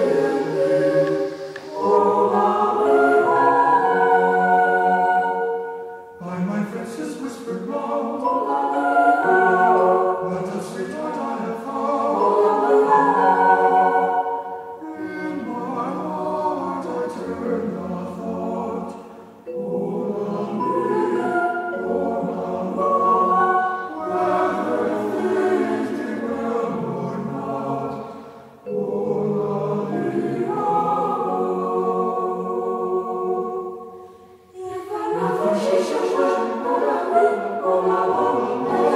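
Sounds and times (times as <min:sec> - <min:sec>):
choir singing slow chords: 0:00.0 - 0:38.9.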